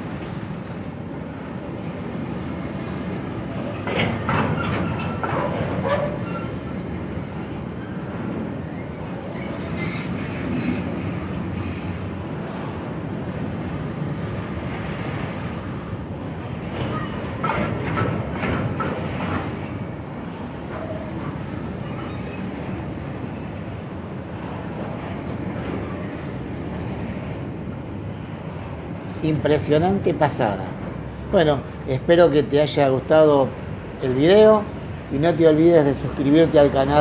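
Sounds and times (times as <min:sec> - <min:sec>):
freight train wheels rumbling: 0:00.0 - 0:37.0
train wagons clattering: 0:02.0 - 0:12.6, 0:16.3 - 0:37.0.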